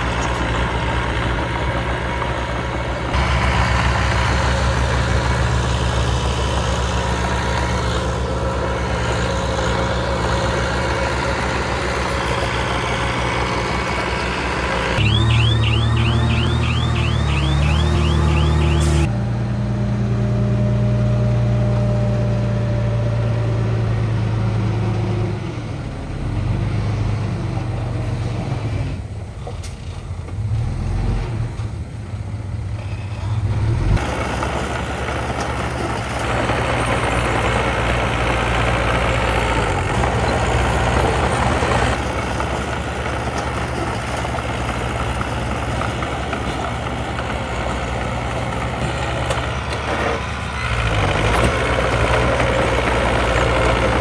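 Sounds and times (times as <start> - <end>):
diesel engine running: 0.0 - 30.7, 31.4 - 54.0.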